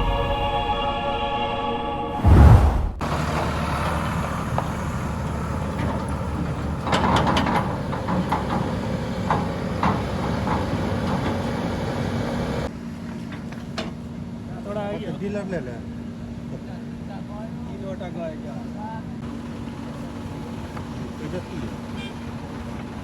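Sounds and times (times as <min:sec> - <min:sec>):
diesel engines running: 0:03.0 - 0:23.0.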